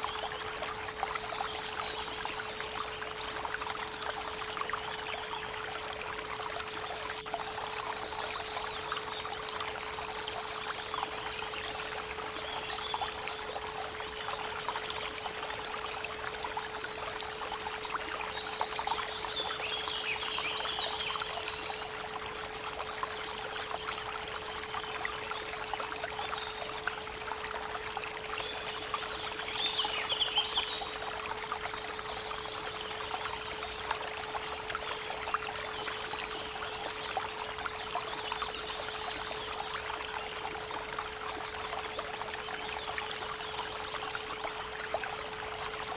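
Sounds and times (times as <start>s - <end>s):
creek babbling: 0.0s - 45.9s
songbirds chirping: 0.0s - 45.9s.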